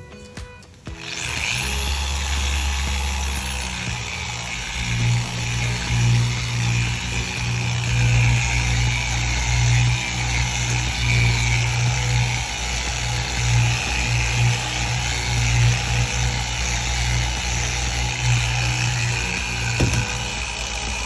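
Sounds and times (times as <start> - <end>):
electric power tool humming: 0.7 - 21.0.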